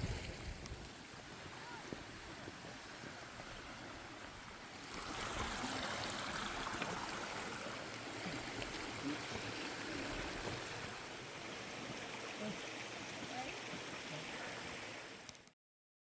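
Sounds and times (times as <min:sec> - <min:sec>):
stream water rushing: 0:00.0 - 0:15.5.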